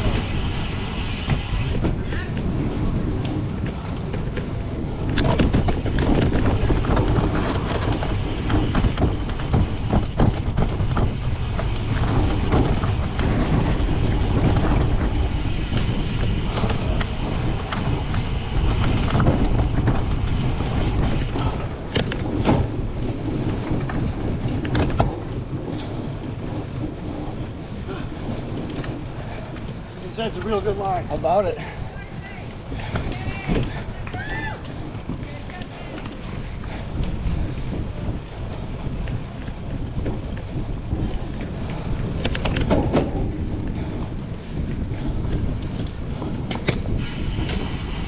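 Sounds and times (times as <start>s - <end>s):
bike knocks and rattles: 0.0s - 48.0s
bike rumbling over rough ground: 0.0s - 48.0s
wind buffeting microphone: 0.0s - 48.0s.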